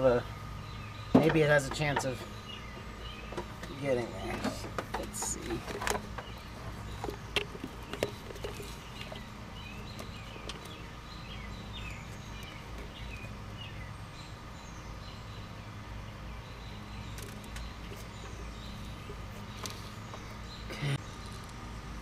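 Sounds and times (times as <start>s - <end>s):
faint birds chirping: 0.0s - 22.0s
steady low hum: 0.0s - 22.0s.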